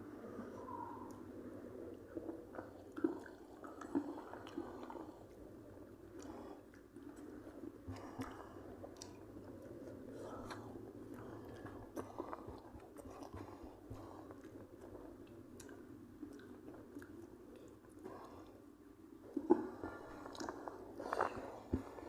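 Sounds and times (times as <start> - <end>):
person chewing food: 0.4 - 22.0.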